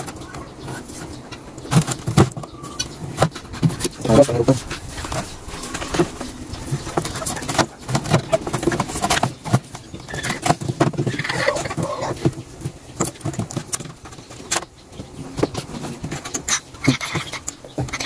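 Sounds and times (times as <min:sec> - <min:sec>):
wires rustling: 0:00.0 - 0:18.0.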